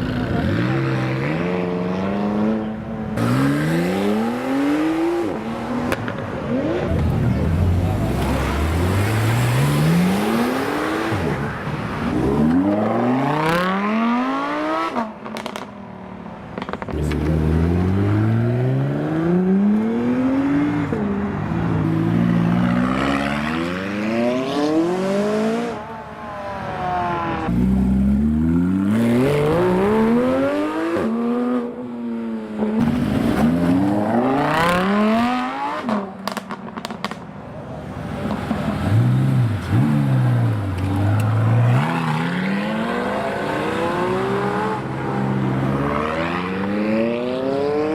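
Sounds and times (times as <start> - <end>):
car engines accelerating hard: 0.0 - 47.9.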